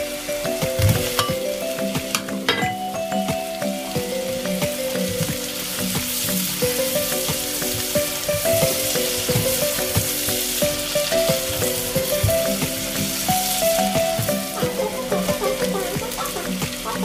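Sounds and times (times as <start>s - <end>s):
soft melody: 0.0s - 17.0s
vegetables sizzling in a frying pan: 0.0s - 17.0s.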